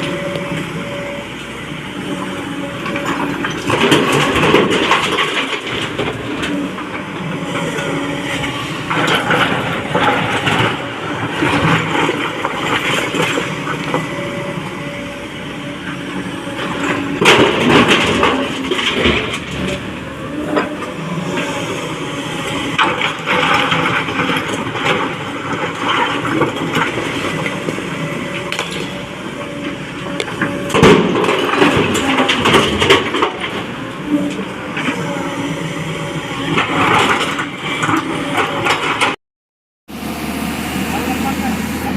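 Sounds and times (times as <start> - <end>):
excavator engine running: 0.0 - 39.2, 39.9 - 41.9.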